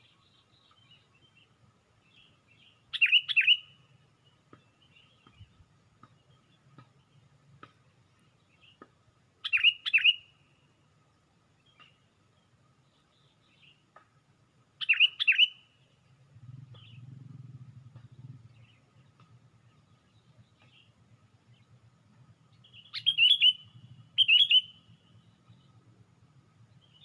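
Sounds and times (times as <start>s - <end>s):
bird chirping: 0.0s - 14.0s, 14.7s - 27.0s.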